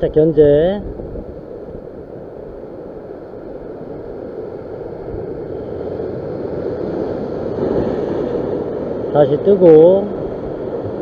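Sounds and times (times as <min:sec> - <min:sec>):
surf breaking against rocks: 0:00.9 - 0:11.0.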